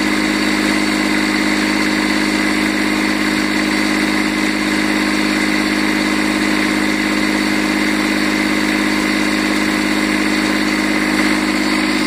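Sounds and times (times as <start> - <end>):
diesel mower engine running: 0.0 - 12.0.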